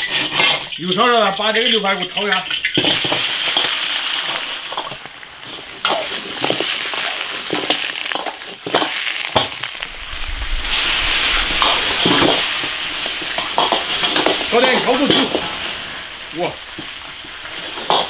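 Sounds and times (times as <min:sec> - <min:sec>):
ribs sizzling in hot oil: 0:00.0 - 0:18.0.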